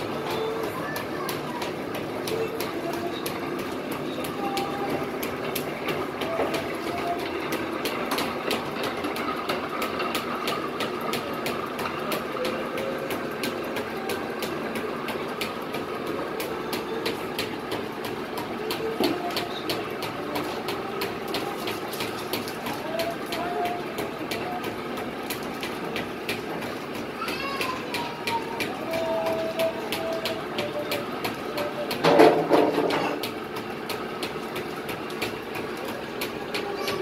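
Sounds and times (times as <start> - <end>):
dough mixer running: 0.0 - 37.0
rapid mechanical clatter: 0.0 - 37.0.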